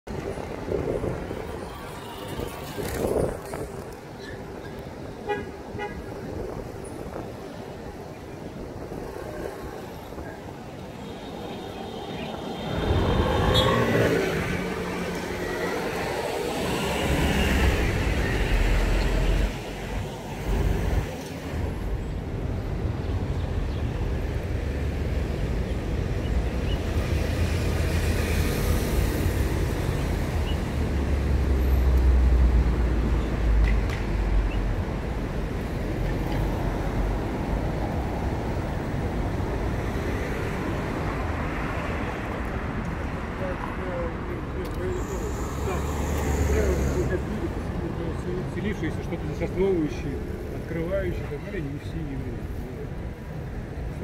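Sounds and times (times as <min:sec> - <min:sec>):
cars passing on street: 0:00.1 - 0:54.0.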